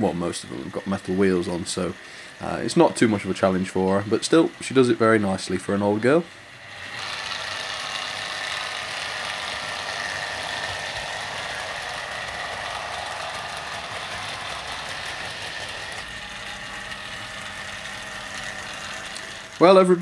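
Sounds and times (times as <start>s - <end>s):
electric motor high whine: 0.0s - 20.0s
model train wheels rattling on track: 0.0s - 20.0s.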